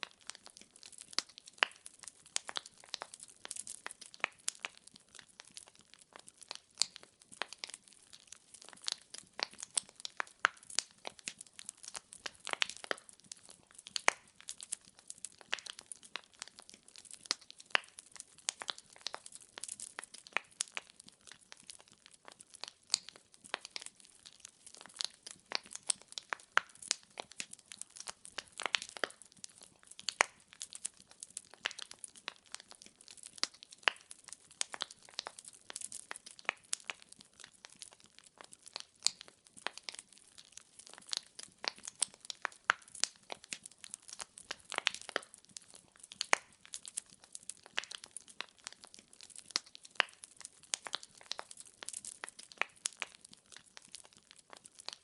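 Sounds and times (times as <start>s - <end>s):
burning firewood crackling: 0.0s - 55.0s.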